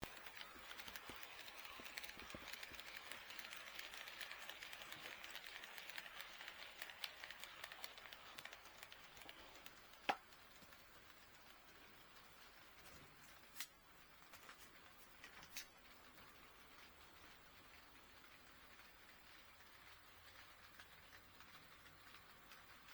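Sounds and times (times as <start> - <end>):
wheel and rail-joint ticks: 0.0 - 13.8, 14.8 - 22.9
model train rolling on track: 0.0 - 22.9.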